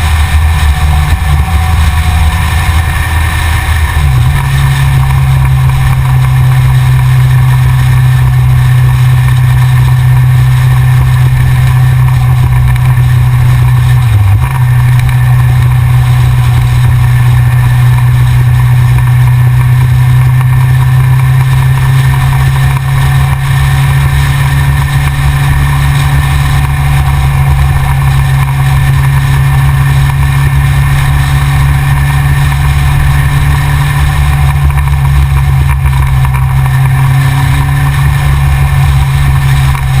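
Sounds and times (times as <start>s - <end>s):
motorcycle engine cruising: 0.0s - 40.0s.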